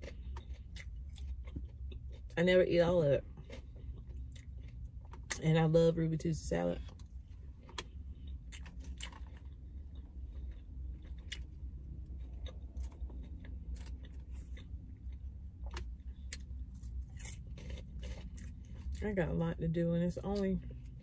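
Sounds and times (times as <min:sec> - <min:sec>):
person chewing crisp lettuce: 0:00.0 - 0:05.5, 0:06.8 - 0:19.1
low hum: 0:00.0 - 0:21.0.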